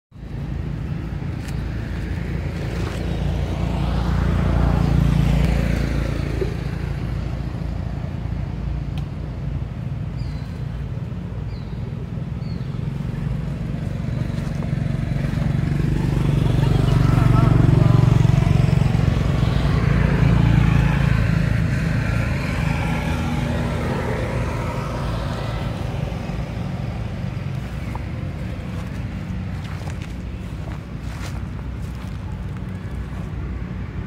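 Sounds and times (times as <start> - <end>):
vehicle engine passing: 0.2 - 34.0.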